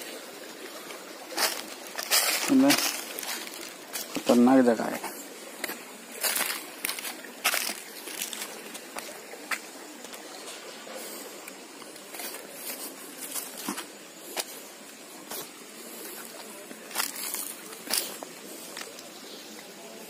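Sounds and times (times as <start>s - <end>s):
footsteps on stones and dry leaves: 0.0s - 20.0s
steady outdoor hiss: 0.0s - 20.0s.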